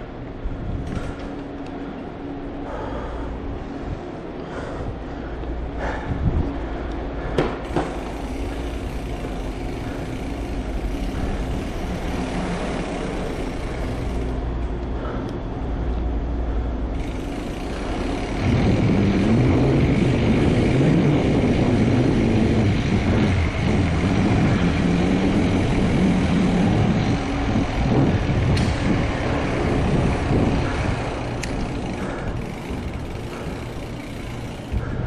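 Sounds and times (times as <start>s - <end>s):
bike tyres rumbling on concrete: 0.0s - 16.0s, 16.9s - 35.0s
rush of noise: 0.0s - 35.0s.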